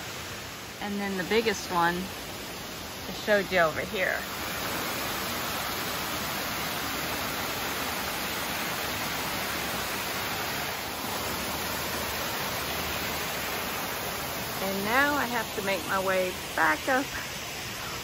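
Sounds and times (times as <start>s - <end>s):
waterfall rushing and splashing: 0.0s - 18.0s.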